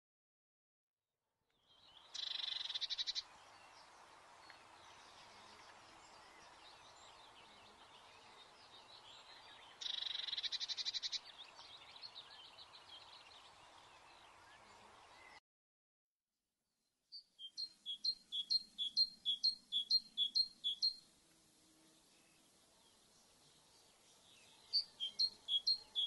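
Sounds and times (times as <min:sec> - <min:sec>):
faint bird chirps: 0:01.6 - 0:15.4, 0:17.1 - 0:21.1, 0:21.8 - 0:26.0.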